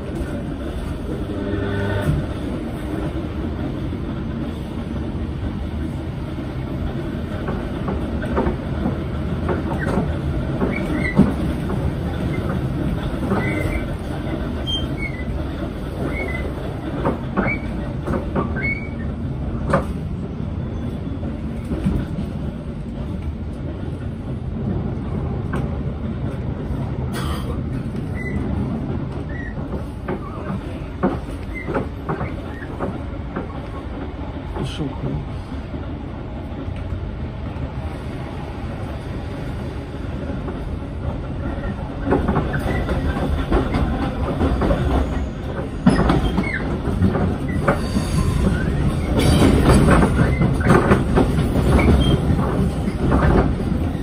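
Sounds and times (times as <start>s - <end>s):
train wheel and rail rumble: 0.0s - 54.0s.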